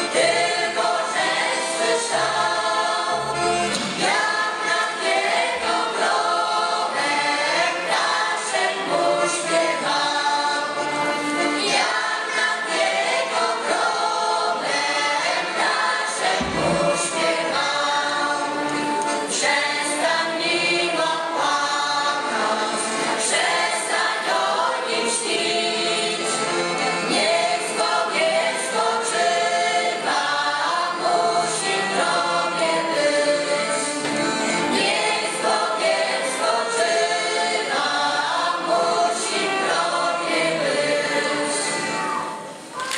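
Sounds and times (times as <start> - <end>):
accordion: 0.0 - 42.8
mixed choir singing folk song: 0.0 - 42.9
violin: 0.0 - 42.9.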